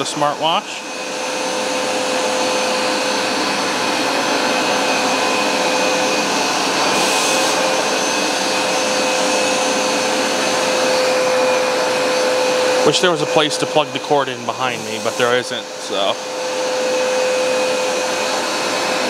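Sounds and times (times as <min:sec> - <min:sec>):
carpet cleaner motor whine: 0:00.0 - 0:19.0.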